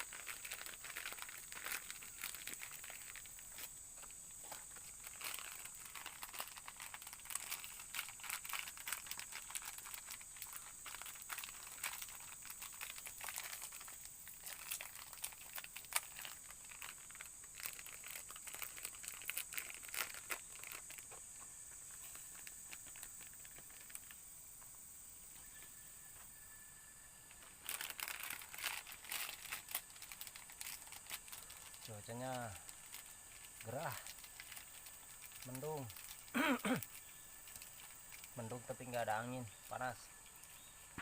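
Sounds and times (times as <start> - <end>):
crackling and rustling: 0.0 - 26.3, 27.3 - 41.0.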